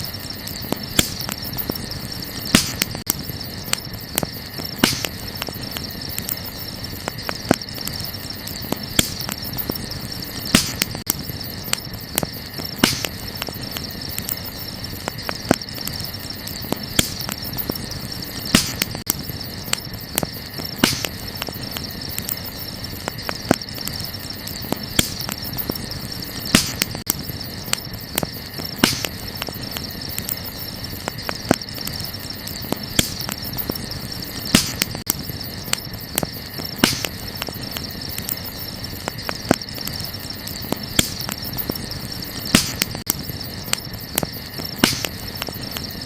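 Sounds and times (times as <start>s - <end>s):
campfire crackling and popping: 0.0s - 46.0s
crickets chirping: 0.0s - 46.0s.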